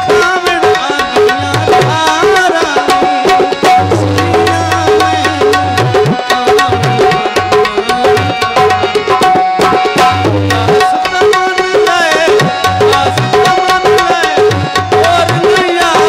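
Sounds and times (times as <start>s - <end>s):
tabla playing steady rhythm: 0.0s - 16.0s
wavering melody: 1.2s - 15.8s.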